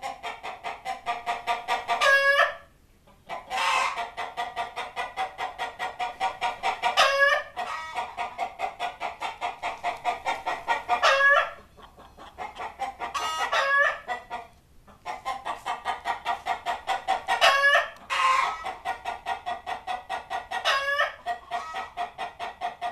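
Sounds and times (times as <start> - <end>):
chicken squawk: 0.0 - 22.9
chickens clucking: 0.0 - 22.9.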